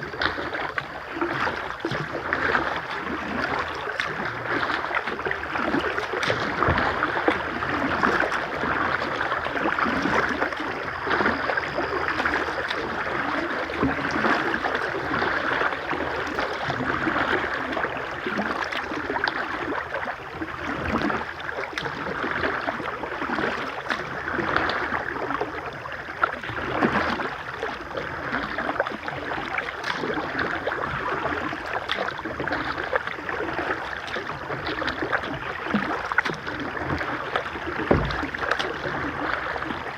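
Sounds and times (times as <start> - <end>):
small splashes and knocks: 0.0 - 25.4, 26.2 - 39.9.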